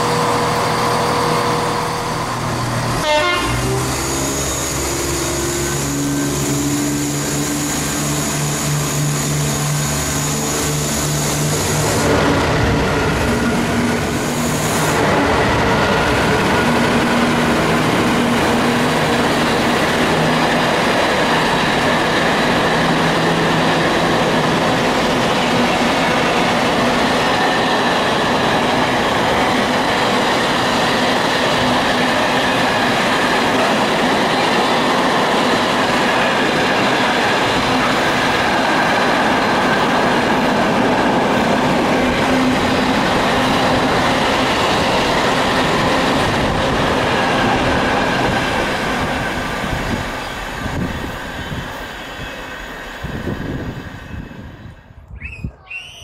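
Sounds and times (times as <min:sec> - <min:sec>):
train passing on rails: 0:00.0 - 0:56.0.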